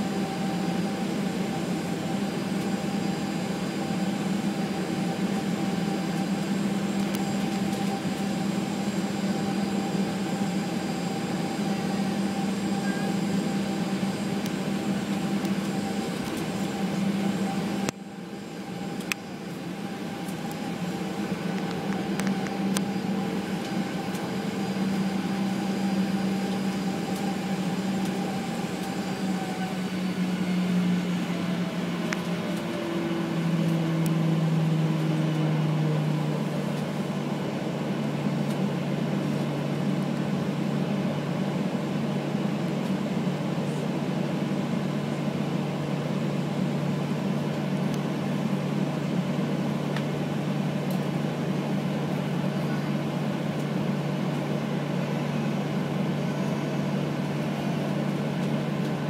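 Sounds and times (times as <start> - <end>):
aircraft cabin hum: 0.0 - 59.0
jet engines winding down: 0.0 - 59.0.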